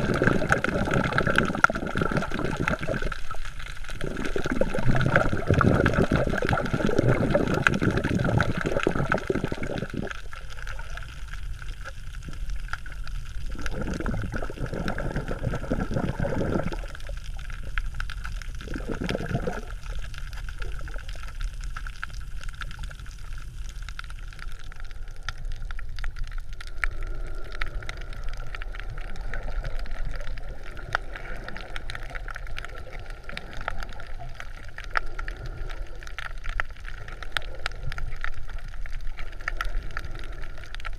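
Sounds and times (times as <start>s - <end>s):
underwater water gurgling: 0.0s - 40.9s.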